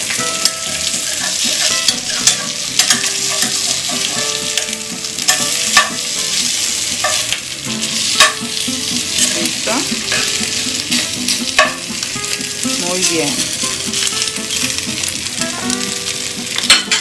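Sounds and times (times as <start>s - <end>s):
meat sizzling in frying pan: 0.0s - 17.0s.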